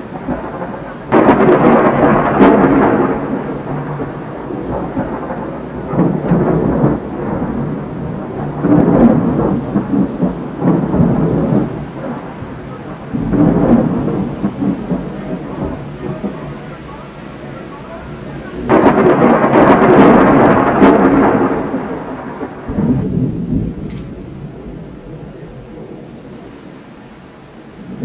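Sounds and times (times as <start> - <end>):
rain hissing: 0.0 - 28.0
thunder rumbling: 0.0 - 28.0.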